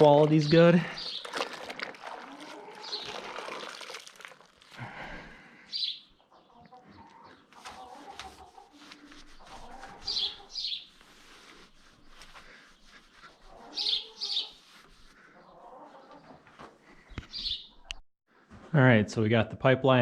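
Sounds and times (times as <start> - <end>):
small birds chirping: 0.0 - 3.9, 5.6 - 18.0.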